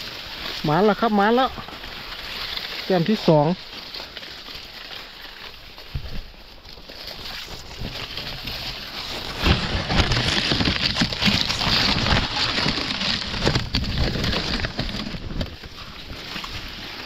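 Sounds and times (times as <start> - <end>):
dry leaves and stalks rustling: 0.0 - 17.0.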